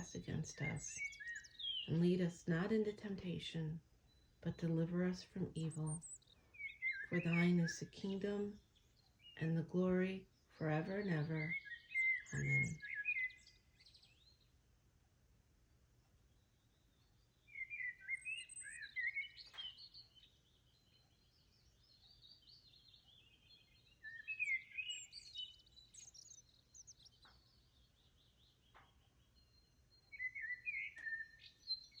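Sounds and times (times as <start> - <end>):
songbird singing: 0.0 - 32.0.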